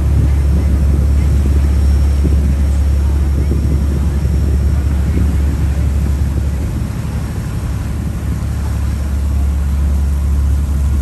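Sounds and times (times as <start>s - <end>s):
boat engine droning: 0.0s - 11.0s
wind and water hiss: 0.0s - 11.0s.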